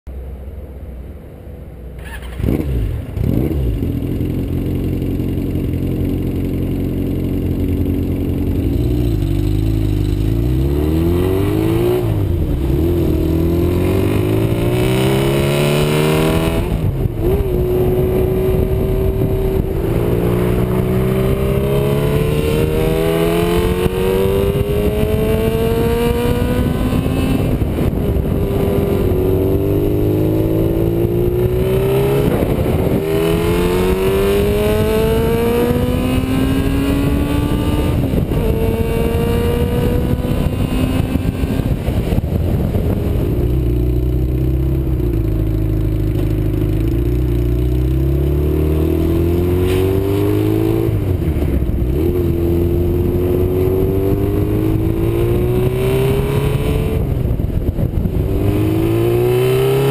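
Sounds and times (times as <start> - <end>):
motorcycle accelerating through gears: 2.0 - 59.9.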